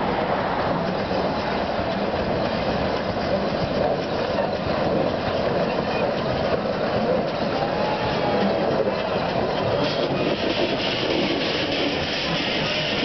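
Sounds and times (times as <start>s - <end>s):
steam train rushing past: 0.0s - 13.0s.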